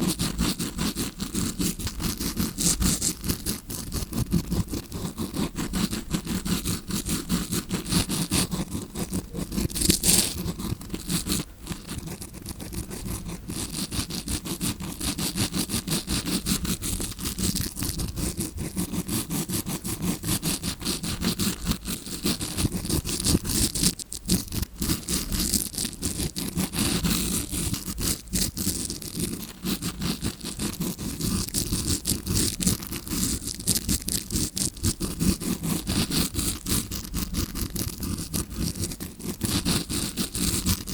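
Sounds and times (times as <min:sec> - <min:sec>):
scrubbing brush scraping microphone: 0:00.0 - 0:40.9.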